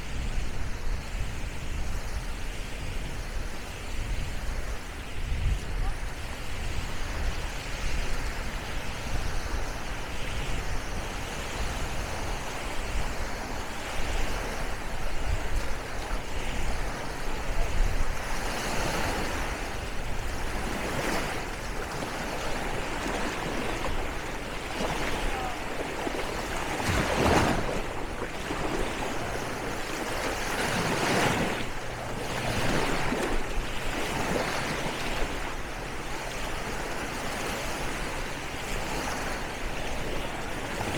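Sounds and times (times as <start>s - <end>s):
small waves washing on sand: 0.0s - 40.9s.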